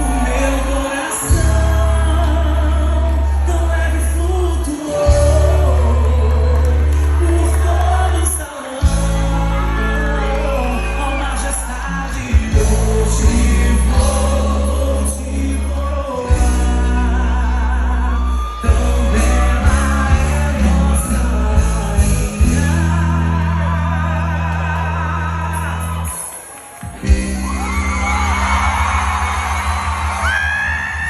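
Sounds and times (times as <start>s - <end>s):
person singing: 0.0s - 28.8s.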